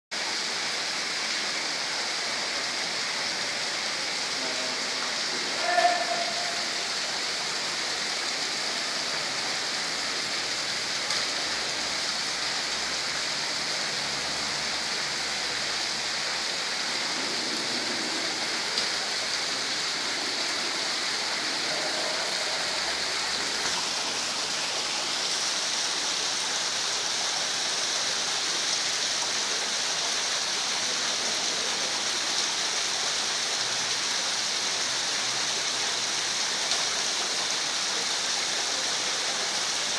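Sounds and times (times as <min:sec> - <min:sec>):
waterfall splashing: 0:00.2 - 0:39.9.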